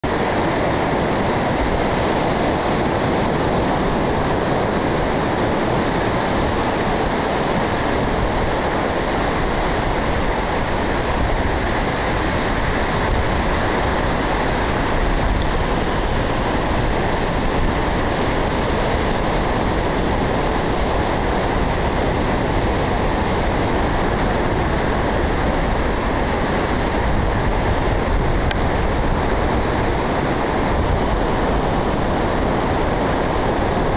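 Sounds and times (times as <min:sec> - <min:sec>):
ocean surf washing on beach: 0:00.0 - 0:33.9
wind on microphone: 0:00.0 - 0:33.9.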